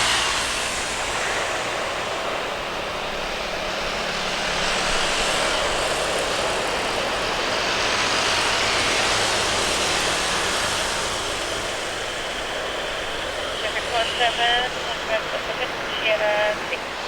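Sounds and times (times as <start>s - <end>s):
jet engine rushing noise: 0.0s - 17.0s.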